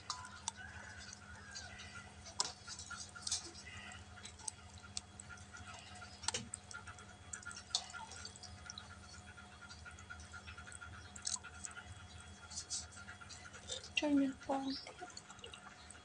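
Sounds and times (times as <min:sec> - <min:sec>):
wet clicks and squelches: 0:00.0 - 0:16.0.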